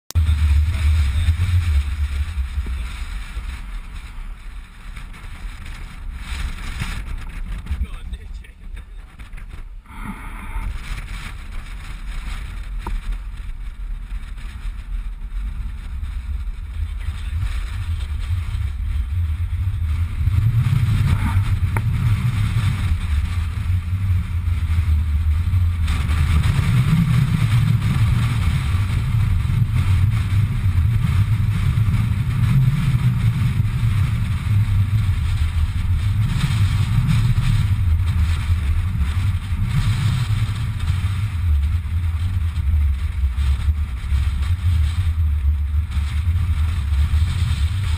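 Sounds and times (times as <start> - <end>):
wind buffeting microphone: 0.1 - 47.9.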